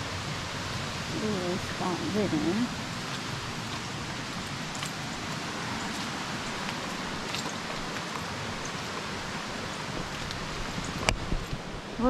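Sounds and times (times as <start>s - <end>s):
water flowing over rocks: 0.0s - 12.0s.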